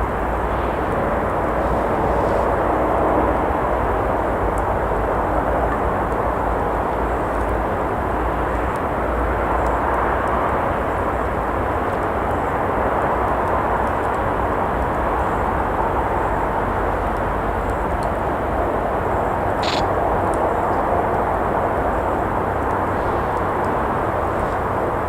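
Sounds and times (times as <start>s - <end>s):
traffic roar: 0.0s - 25.0s.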